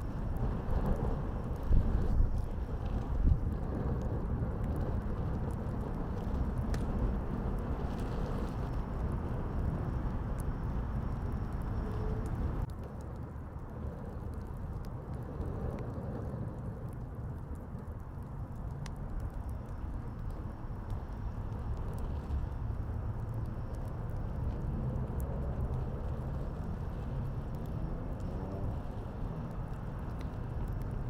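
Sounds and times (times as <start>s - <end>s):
city traffic rumble: 0.0s - 31.0s
wood fire crackling: 0.0s - 31.0s.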